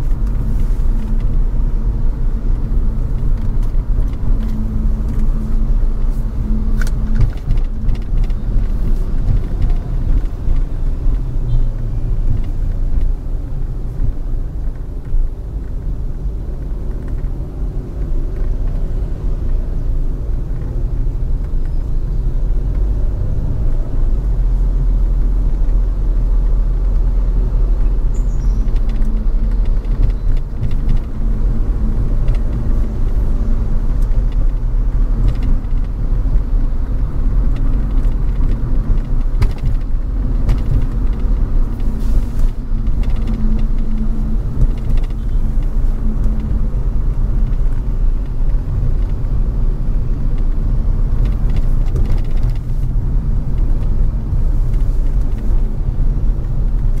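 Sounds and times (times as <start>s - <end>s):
car driving rumble: 0.0s - 57.0s
road and wind noise: 0.0s - 57.0s.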